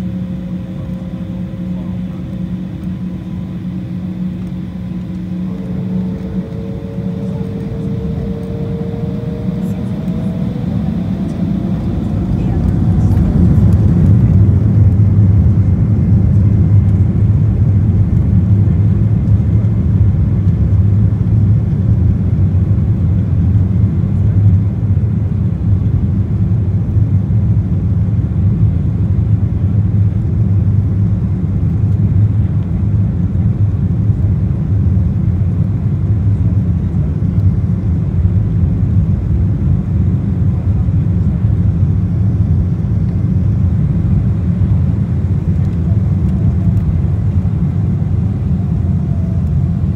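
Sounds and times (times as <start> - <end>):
jet engines rumbling at low thrust: 0.0 - 49.9.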